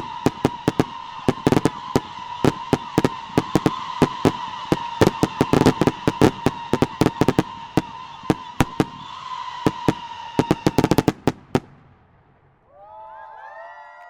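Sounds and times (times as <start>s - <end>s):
fireworks barrage: 0.0s - 12.7s.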